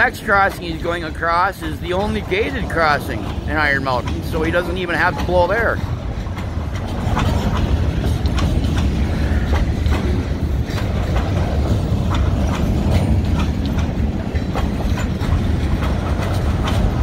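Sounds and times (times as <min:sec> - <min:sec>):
train wheels rumbling on rail: 0:00.0 - 0:17.0
wheels clacking over rail joints: 0:00.0 - 0:17.0.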